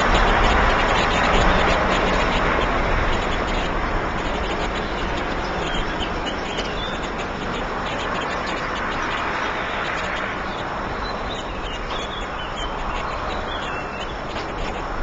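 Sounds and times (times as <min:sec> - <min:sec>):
high chirping bird calls: 0:00.0 - 0:15.0.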